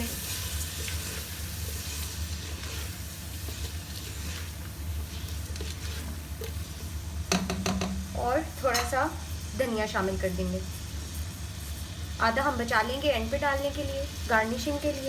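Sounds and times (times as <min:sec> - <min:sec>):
food sizzling in a pan: 0:00.0 - 0:15.0
spoon stirring in a pan: 0:00.0 - 0:15.0
steady low hum: 0:00.8 - 0:15.0.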